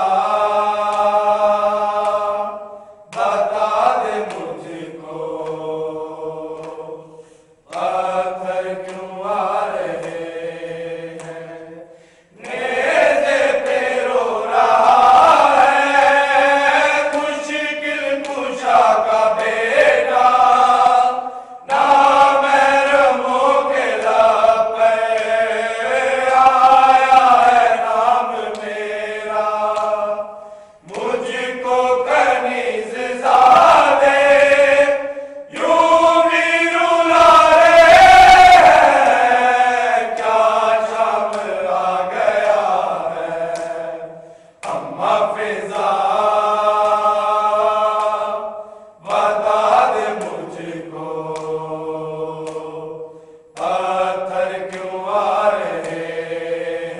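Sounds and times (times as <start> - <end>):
men chanting a lament: 0.0 - 56.9.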